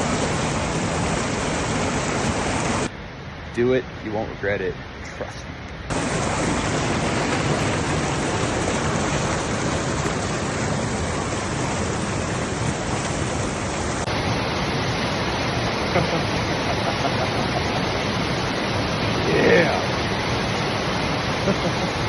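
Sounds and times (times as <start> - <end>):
waterfall pouring: 0.0 - 2.9, 5.9 - 22.0.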